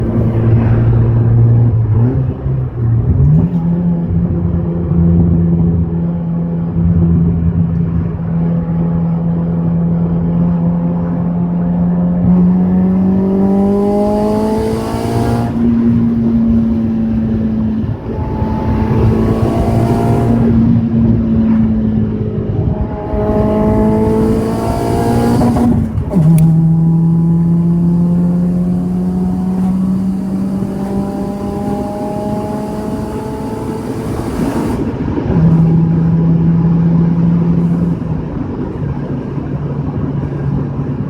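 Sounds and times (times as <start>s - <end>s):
turbocharged car engine running: 0.0s - 41.0s.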